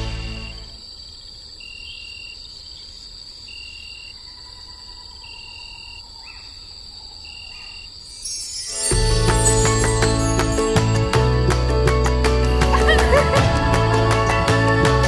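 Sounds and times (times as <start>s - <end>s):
night insects chirring: 0.0s - 14.9s.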